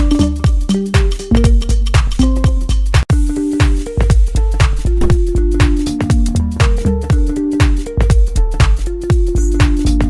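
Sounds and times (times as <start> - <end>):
electronic dance music: 0.0 - 10.0
steady kick drum beat: 0.0 - 10.0.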